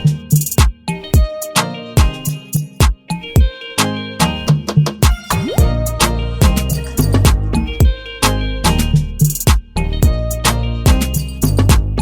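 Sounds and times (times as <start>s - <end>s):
funk music with drums and bass: 0.0s - 12.0s.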